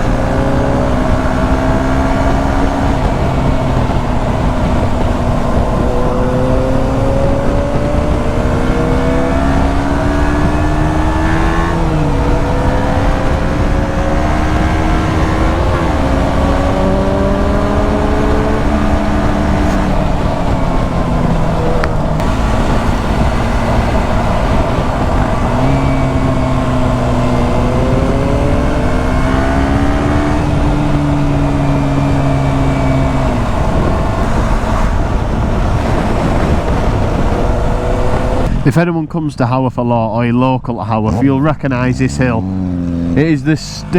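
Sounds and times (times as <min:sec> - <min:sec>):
motorcycle engine accelerating: 0:00.0 - 0:38.7, 0:41.0 - 0:43.9
wind noise on microphone: 0:00.0 - 0:38.7.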